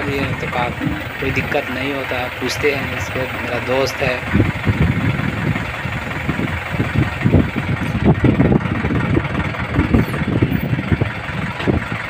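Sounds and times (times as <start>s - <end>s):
crane diesel engine rumbling: 0.0s - 12.0s.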